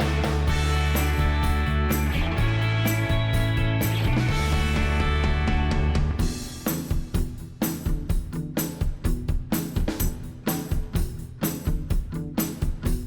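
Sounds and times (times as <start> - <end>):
background music with drum beat: 0.0 - 13.0.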